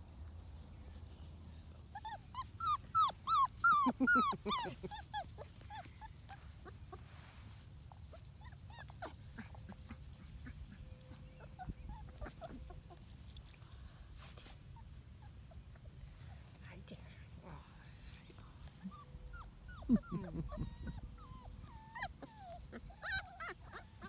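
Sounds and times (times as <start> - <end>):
puppies whimpering and yipping: 1.8 - 13.6, 14.2 - 16.5, 18.6 - 24.0.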